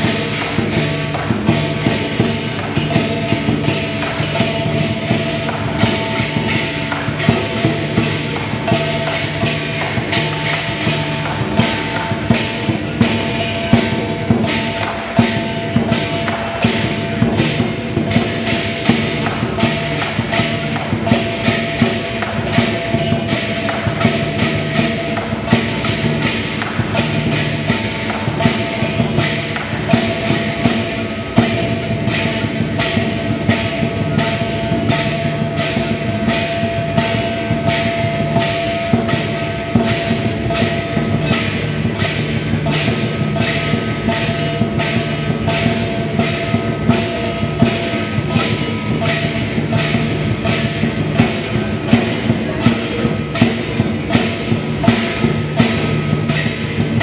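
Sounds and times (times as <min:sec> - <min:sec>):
lion dance percussion: 0:00.0 - 0:57.0.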